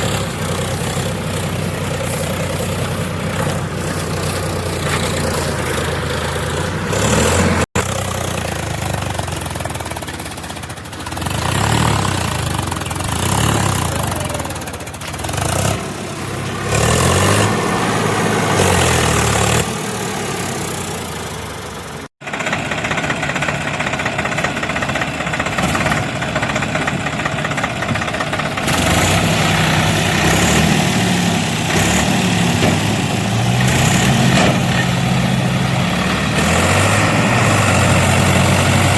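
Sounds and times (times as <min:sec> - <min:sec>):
diesel tractor engine revving: 0:00.0 - 0:38.9.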